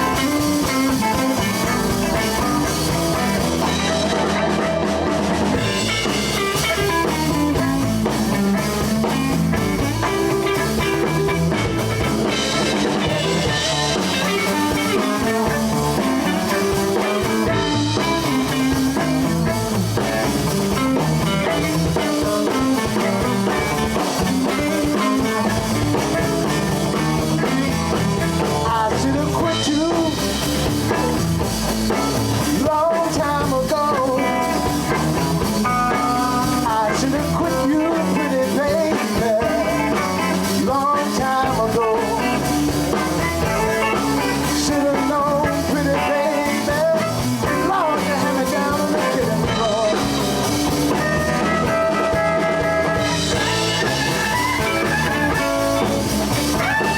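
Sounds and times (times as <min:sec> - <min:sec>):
bass guitar: 0:00.0 - 0:56.9
drum kit: 0:00.0 - 0:56.9
electric guitars: 0:00.0 - 0:56.9.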